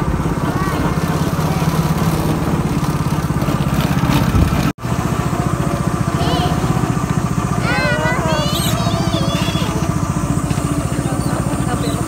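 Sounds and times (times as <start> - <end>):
small go-kart engine chugging: 0.0 - 12.0.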